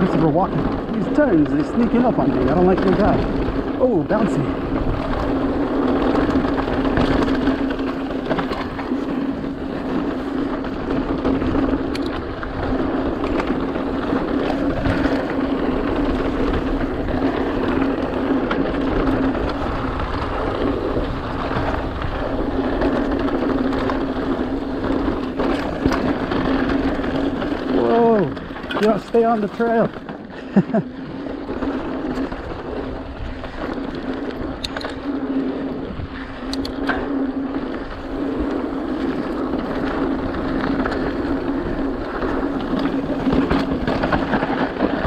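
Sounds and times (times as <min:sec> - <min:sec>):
wind on microphone: 0:00.0 - 0:30.1, 0:31.4 - 0:45.0
bike clicking and rattling: 0:00.0 - 0:45.0
bike tyres on dirt trail: 0:00.0 - 0:45.0.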